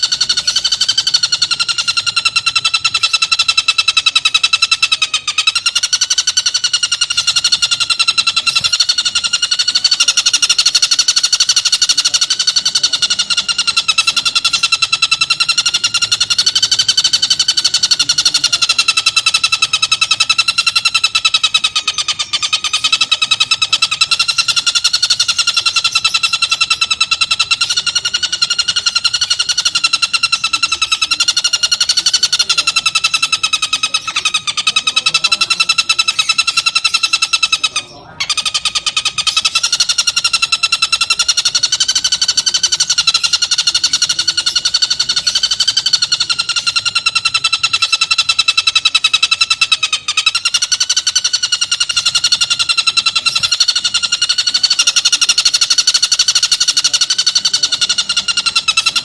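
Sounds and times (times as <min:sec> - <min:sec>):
kingfisher rattling call: 0:00.0 - 0:59.0.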